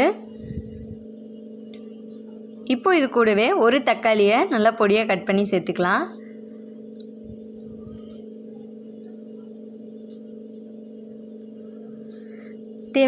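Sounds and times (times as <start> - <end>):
low hum of two held tones: 0.0 - 13.0.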